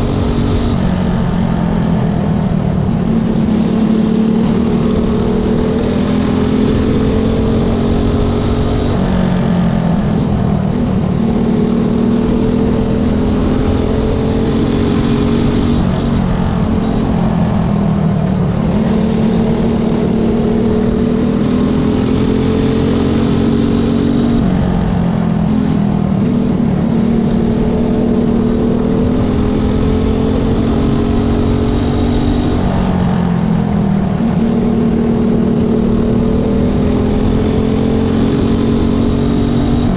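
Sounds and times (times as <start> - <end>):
race motorcycle engines revving: 0.0 - 39.9.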